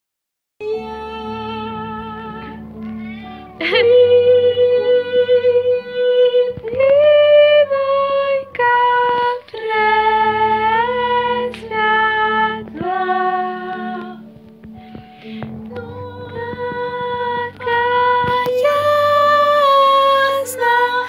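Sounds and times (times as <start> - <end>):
woman singing: 0.6 - 2.8, 3.6 - 14.3, 15.6 - 21.0.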